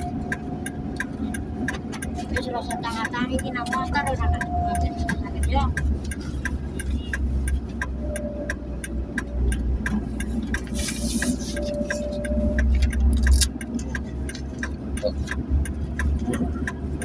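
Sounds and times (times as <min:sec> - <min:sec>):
turn signal ticking: 0:00.0 - 0:17.0
vehicle engine rumble: 0:00.0 - 0:17.0.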